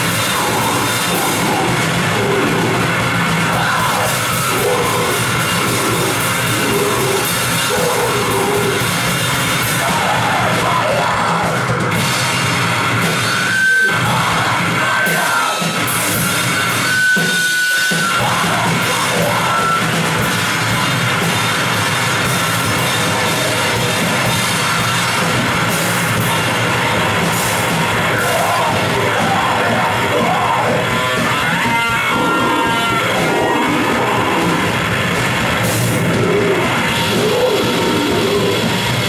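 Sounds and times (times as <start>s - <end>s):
heavy metal band playing: 0.0s - 39.0s.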